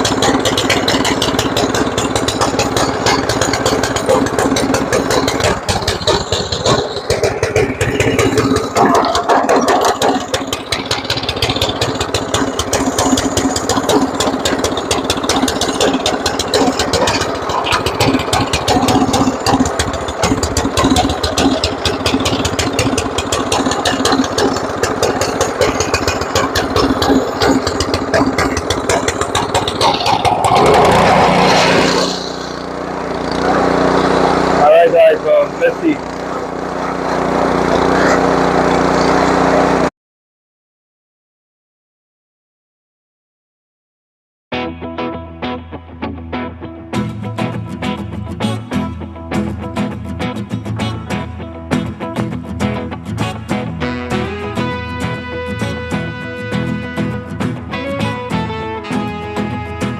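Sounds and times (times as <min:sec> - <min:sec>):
snowblower engine running: 0:00.0 - 0:39.9, 0:46.9 - 0:59.9.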